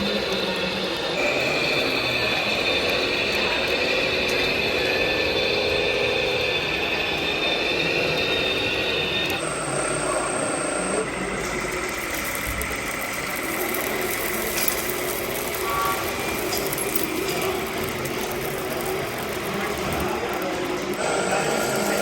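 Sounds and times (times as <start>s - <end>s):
model trucks whining: 0.0s - 22.0s.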